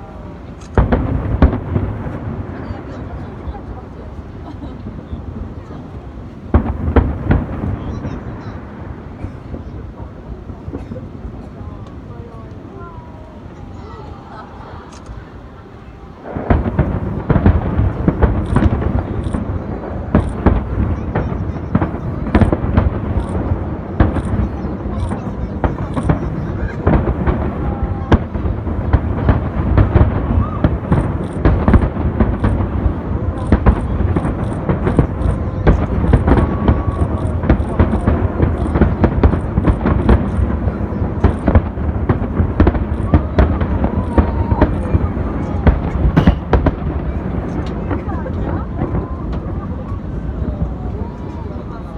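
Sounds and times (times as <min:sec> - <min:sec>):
continuous rumble: 0:00.0 - 0:51.9
fireworks bangs and booms: 0:00.0 - 0:51.9.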